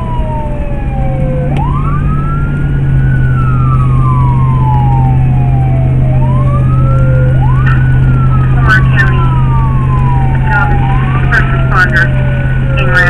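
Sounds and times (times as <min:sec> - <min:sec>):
emergency siren wailing: 0:00.0 - 0:13.0
steady low drone: 0:00.0 - 0:13.0.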